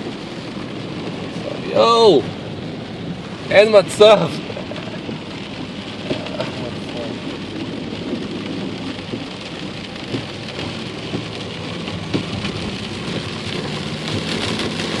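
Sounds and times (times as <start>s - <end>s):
water splashing against car: 0.0s - 15.0s.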